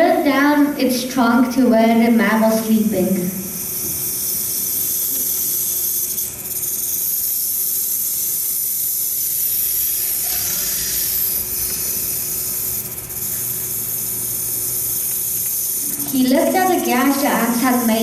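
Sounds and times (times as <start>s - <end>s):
steady hissing: 2.4s - 18.0s.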